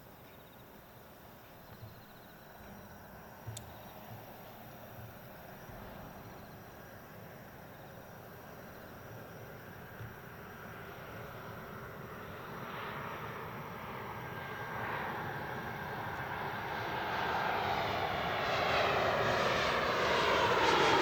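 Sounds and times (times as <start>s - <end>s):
distant jet airliner rumble: 0.0s - 21.0s
insects chirping in trills: 0.0s - 21.0s.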